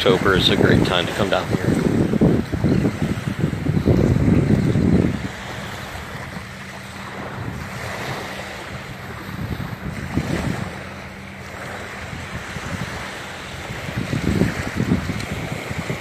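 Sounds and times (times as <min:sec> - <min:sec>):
surf washing on shore: 0:00.0 - 0:16.0
wind rumbling on microphone: 0:00.0 - 0:16.0.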